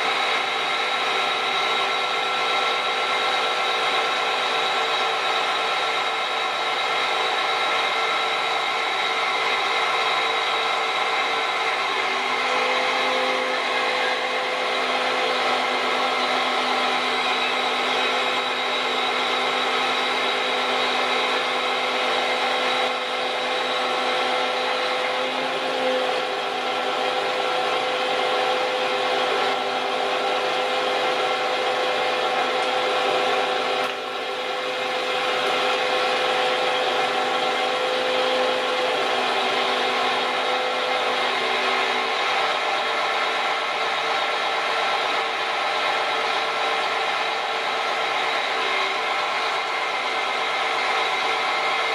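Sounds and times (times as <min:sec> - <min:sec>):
machinery drone with whining tones: 0:00.0 - 0:51.9.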